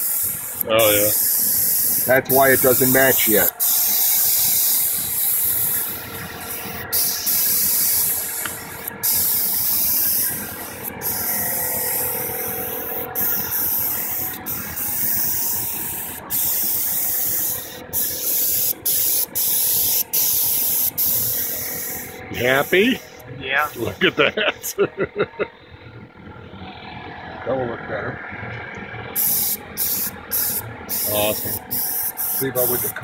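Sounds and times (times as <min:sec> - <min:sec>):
air spray gun hissing: 0:00.0 - 0:24.2, 0:29.2 - 0:33.0
steady hum: 0:00.0 - 0:33.0.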